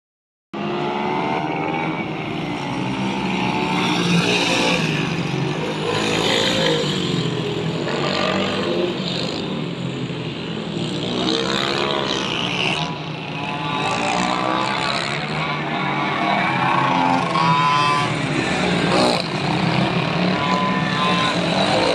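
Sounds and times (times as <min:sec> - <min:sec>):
pit bike engines revving: 0:00.6 - 0:21.9.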